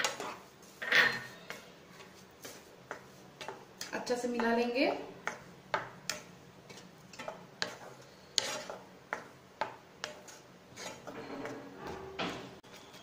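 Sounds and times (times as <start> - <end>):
wooden spatula scraping a pan: 0.0 - 4.8, 6.1 - 13.0.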